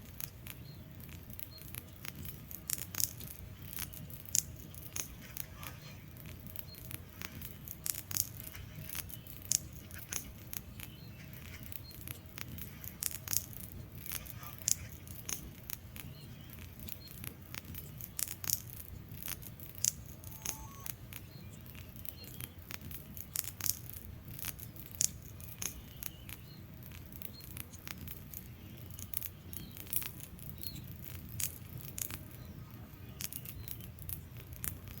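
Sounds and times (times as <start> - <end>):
fire flames rumbling: 0.0 - 35.0
logs crackling and popping: 0.0 - 35.0.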